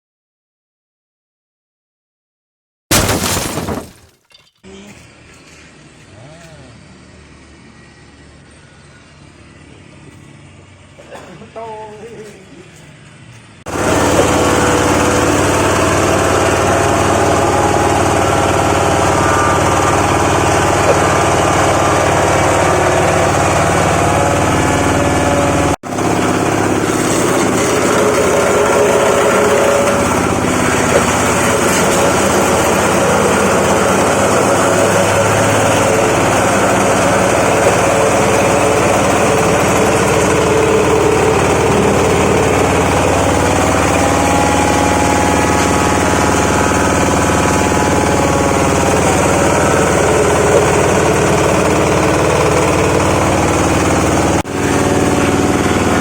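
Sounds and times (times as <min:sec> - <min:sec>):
hammer mill grinding wood: 0:02.9 - 0:04.6, 0:12.0 - 0:56.0.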